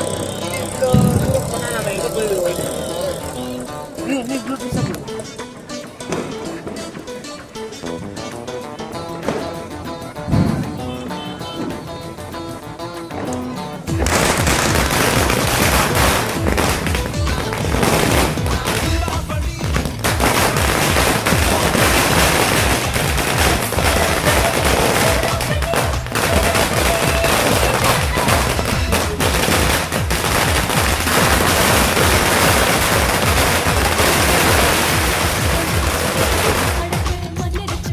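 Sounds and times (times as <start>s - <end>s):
firecrackers banging: 0.0s - 37.9s.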